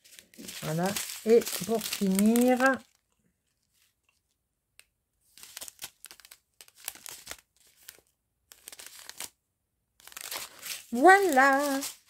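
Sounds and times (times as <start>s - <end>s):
plastic bags crinkling: 0.0s - 4.3s, 5.3s - 9.3s, 10.0s - 12.0s.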